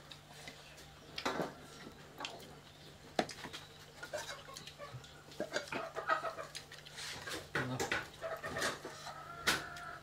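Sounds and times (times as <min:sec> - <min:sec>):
mouth and hand eating noises: 0:00.0 - 0:09.2.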